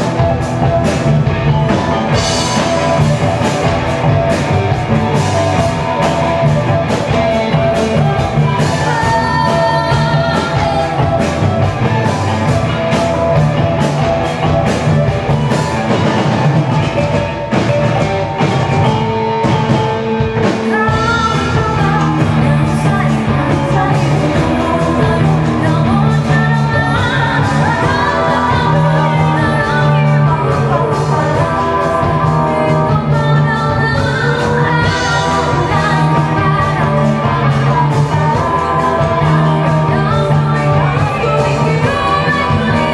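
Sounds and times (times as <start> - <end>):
singing voices: 0.0 - 19.3, 20.1 - 42.9
live band with gong-chimes: 0.0 - 42.9.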